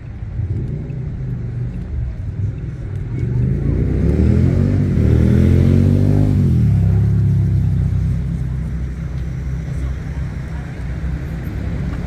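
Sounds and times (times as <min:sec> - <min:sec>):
vehicle engine revving: 0:00.3 - 0:10.4.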